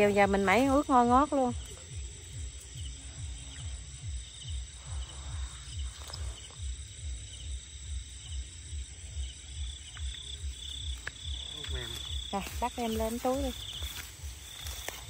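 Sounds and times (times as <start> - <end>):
crickets trilling: 0.0 - 15.0
low regular throbbing: 0.0 - 15.0.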